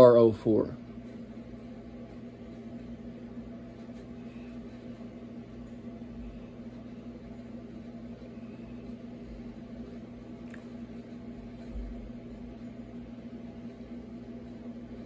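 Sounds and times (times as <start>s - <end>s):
motor hum with faint hiss: 0.0s - 15.0s.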